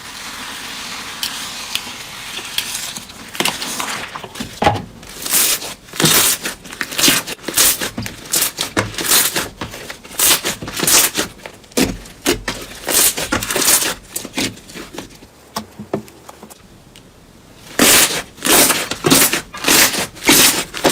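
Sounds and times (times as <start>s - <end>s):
crunchy slime squishes: 0.0s - 15.3s, 17.6s - 20.9s.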